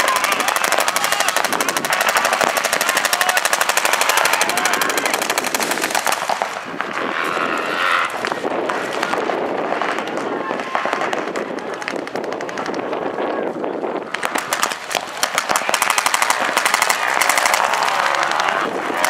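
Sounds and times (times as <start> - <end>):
paintball markers firing: 0.0 - 7.0, 8.1 - 13.0, 14.1 - 19.0.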